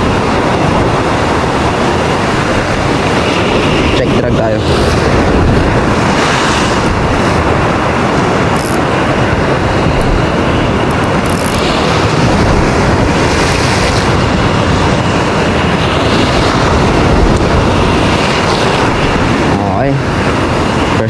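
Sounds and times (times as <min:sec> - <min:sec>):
surf: 0:00.0 - 0:21.0
wind on microphone: 0:00.0 - 0:21.0.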